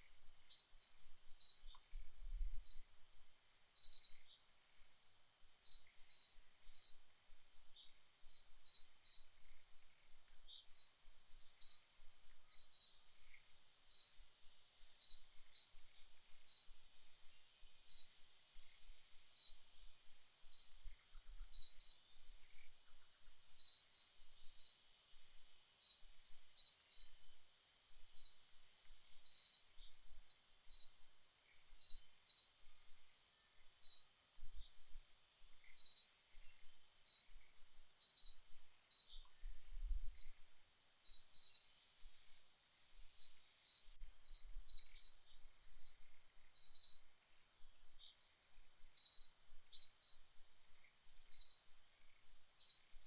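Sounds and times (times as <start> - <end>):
small bird chirping: 0.0 - 3.0, 3.7 - 4.6, 5.5 - 27.4, 28.0 - 53.0
faint high hiss: 0.0 - 53.0.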